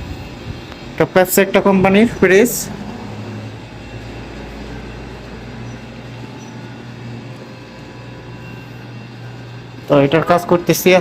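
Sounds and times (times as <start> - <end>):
refrigerator humming and whirring: 0.0 - 11.0.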